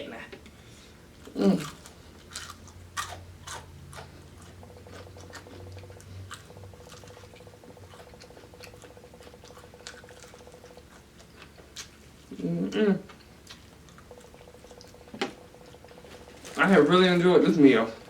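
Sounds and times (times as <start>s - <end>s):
faint steady hum: 0.0s - 18.0s
person chewing with mouth smacks: 1.2s - 16.5s.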